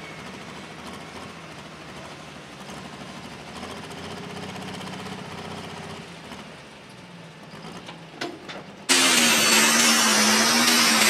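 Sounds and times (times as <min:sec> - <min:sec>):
diesel engine running at low speed: 0:00.0 - 0:11.0.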